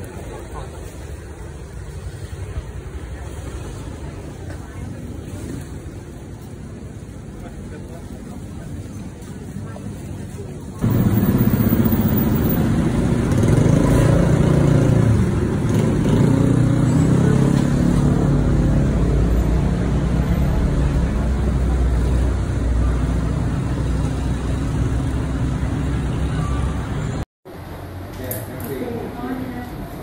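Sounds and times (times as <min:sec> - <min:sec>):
street traffic passing: 0:00.0 - 0:30.0.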